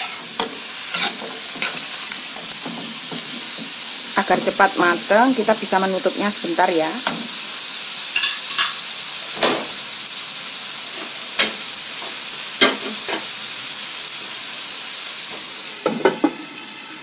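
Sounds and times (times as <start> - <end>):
vegetables sizzling in wok: 0.0 - 17.0.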